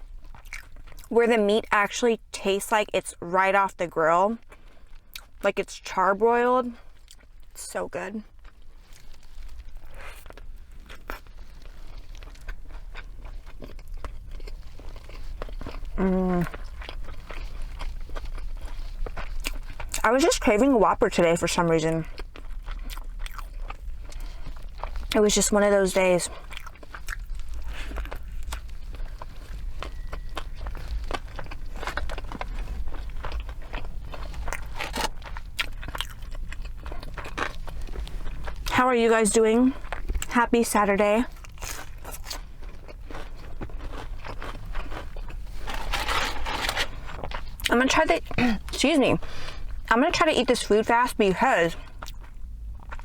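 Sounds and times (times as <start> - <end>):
close chewing mouth sounds: 0.0 - 1.9, 4.0 - 53.0.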